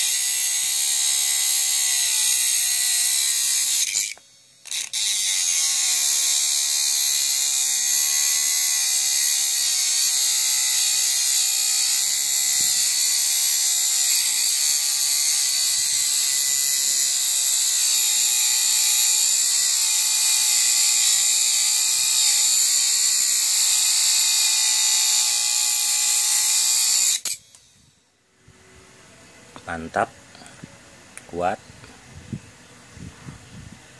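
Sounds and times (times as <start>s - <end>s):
grinder cutting hiss: 0.0s - 28.0s
small motor whining: 0.0s - 28.7s.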